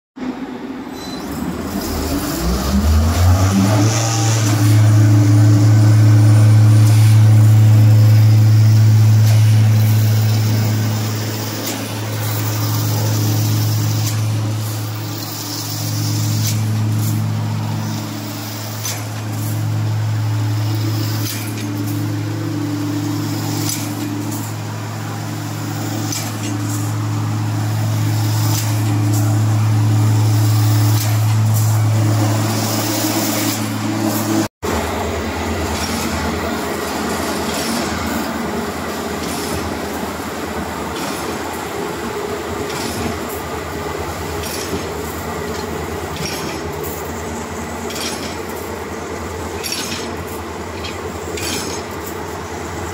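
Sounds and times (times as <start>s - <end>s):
machine motor humming: 0.3s - 52.9s.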